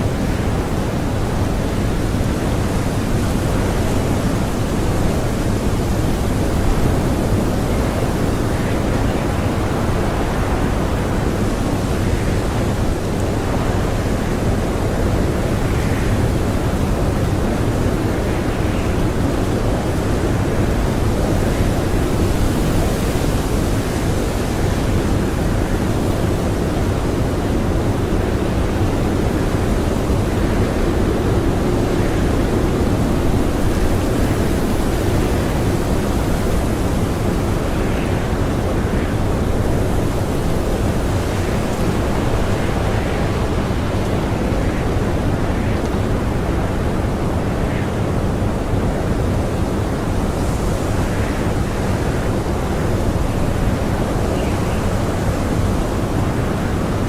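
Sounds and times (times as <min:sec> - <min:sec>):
blizzard wind howling: 0:00.0 - 0:57.0.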